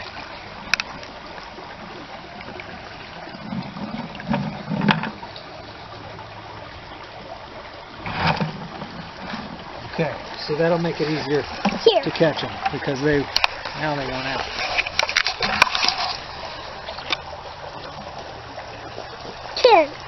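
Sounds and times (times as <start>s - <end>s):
water trickling from a bucket: 0.0s - 20.0s.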